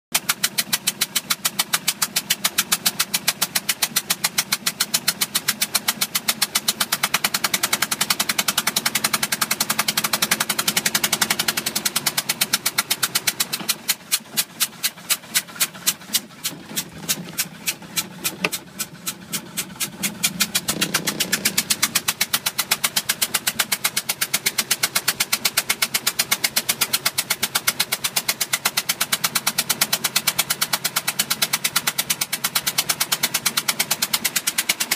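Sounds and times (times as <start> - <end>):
boat engine knocking: 0.1 - 34.9.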